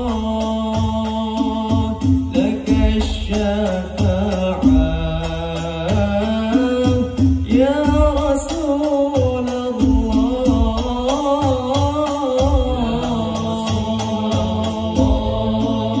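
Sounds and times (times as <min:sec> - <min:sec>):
hand-struck frame drums: 0:00.0 - 0:16.0
wavering vocal chant: 0:00.0 - 0:16.0.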